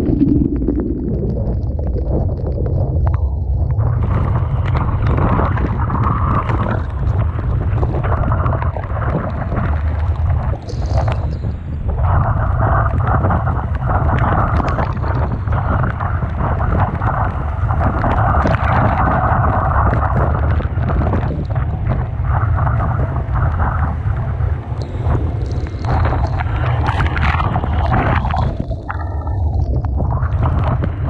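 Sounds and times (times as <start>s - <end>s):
rough sea and surf: 0.0s - 31.0s
scattered crackles: 0.0s - 31.0s
wind buffeting microphone: 0.0s - 31.0s.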